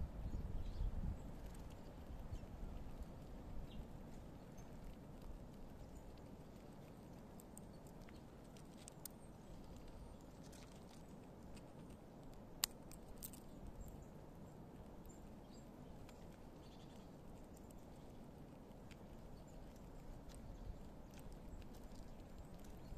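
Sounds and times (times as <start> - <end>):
low background noise: 0.0 - 22.9
squirrel cracking nut shells: 1.2 - 22.9.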